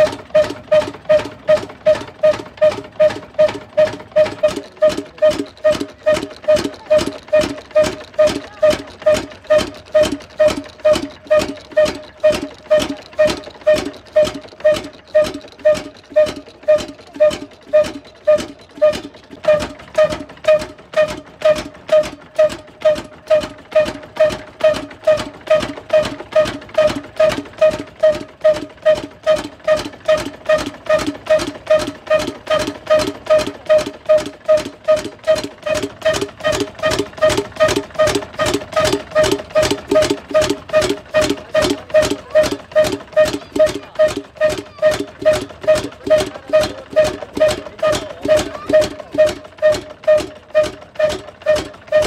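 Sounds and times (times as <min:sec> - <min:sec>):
diesel engine running slowly: 0:00.0 - 0:52.0.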